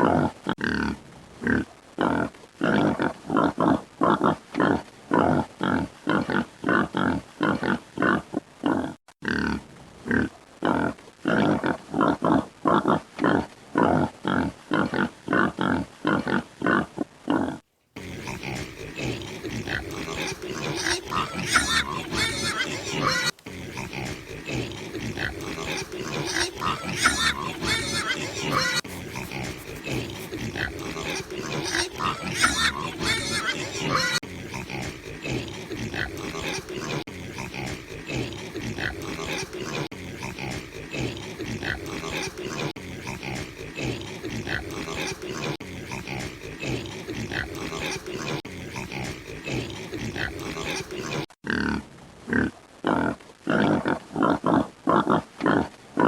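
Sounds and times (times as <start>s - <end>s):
pigs grunting: 0.0s - 55.7s
pigs squealing: 1.5s - 53.7s.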